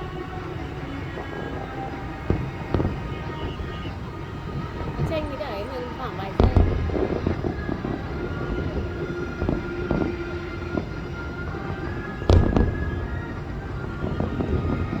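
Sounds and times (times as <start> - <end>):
fireworks loud bang: 0.0 - 15.0
fireworks thumps: 0.0 - 15.0
steady rumble: 0.0 - 15.0.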